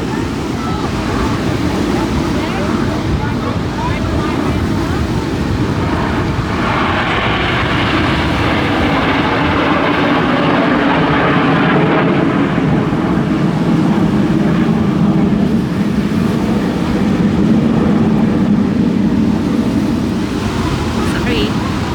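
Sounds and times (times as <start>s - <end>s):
aircraft flying past: 0.0s - 21.9s.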